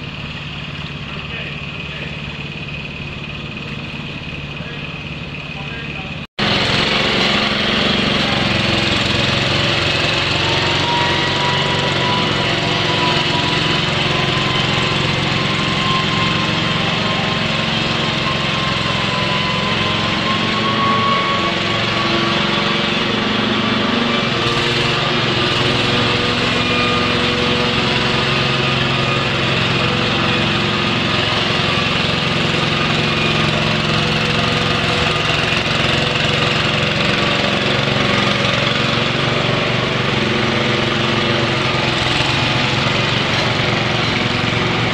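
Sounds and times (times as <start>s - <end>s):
machinery motors humming: 0.0s - 44.9s.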